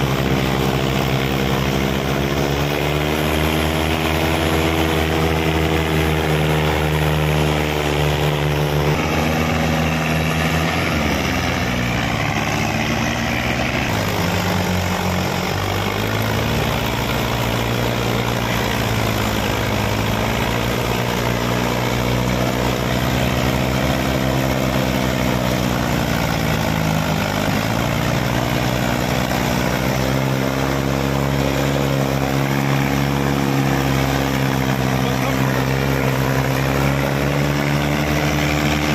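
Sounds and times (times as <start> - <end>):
tractor diesel engines under load: 0.0 - 38.9.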